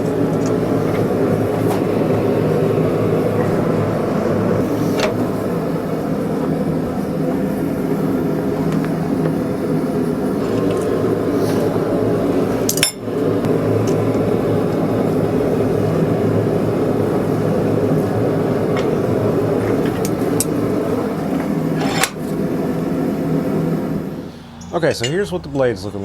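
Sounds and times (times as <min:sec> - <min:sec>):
workshop machinery running: 0:00.0 - 0:26.0.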